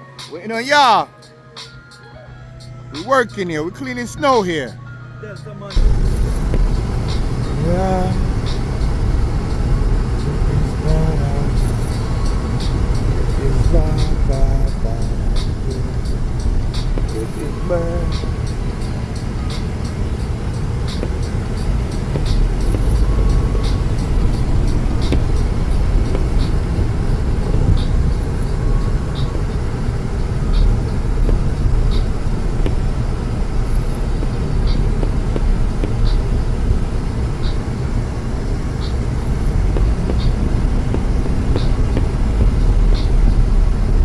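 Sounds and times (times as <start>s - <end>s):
vehicle engine rumble: 0.0s - 44.0s.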